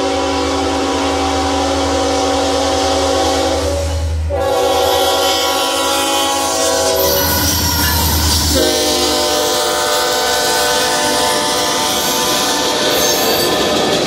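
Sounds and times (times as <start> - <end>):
locomotive air horn chord: 0.0 - 13.2.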